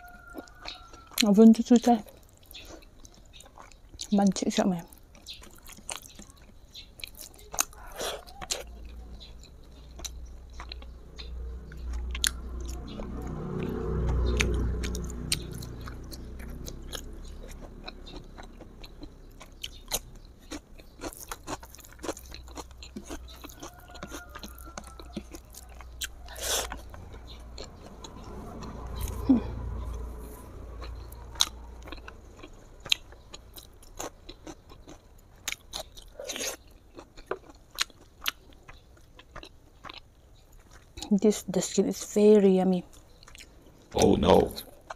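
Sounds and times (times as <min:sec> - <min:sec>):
person chewing food: 0:00.0 - 0:04.2, 0:04.8 - 0:41.2, 0:42.9 - 0:44.9.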